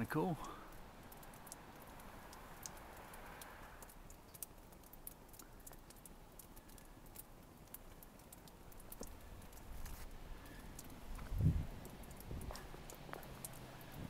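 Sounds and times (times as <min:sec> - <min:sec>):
soft hiss: 0:00.0 - 0:14.0
water dripping: 0:00.0 - 0:14.0.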